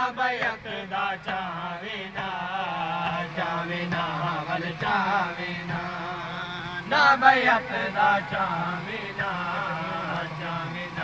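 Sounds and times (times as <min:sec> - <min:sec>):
men chanting together: 0:00.0 - 0:11.0
steady low hum: 0:00.0 - 0:11.0.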